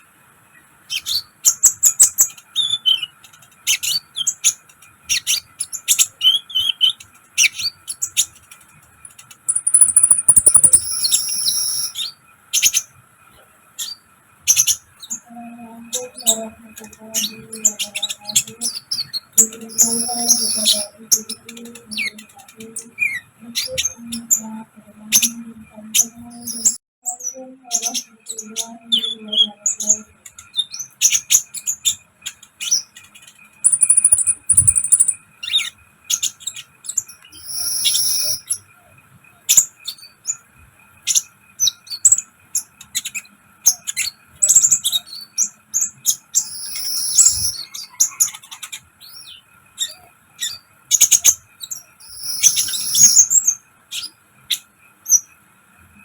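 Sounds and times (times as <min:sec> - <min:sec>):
rapid sharp bird chirps: 0:00.8 - 0:13.0, 0:16.0 - 0:24.4, 0:26.0 - 0:26.8, 0:27.6 - 0:38.8, 0:39.4 - 0:55.4.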